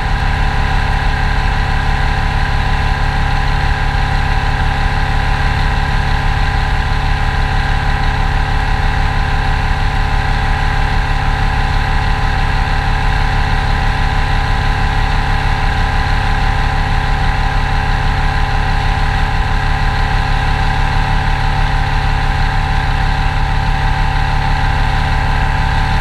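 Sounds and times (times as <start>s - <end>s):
engine and propeller drone: 0.0s - 26.0s.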